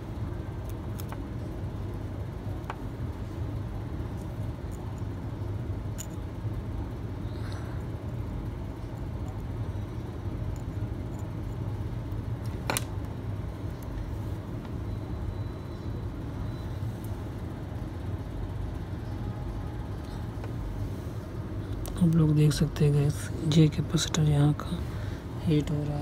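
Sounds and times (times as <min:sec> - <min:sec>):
low background rumble and hum: 0:00.0 - 0:26.0.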